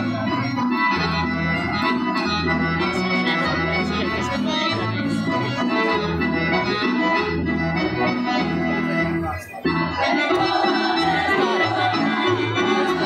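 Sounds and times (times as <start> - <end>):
double bass line: 0.0 - 13.0
folk dance band playing: 0.0 - 13.0.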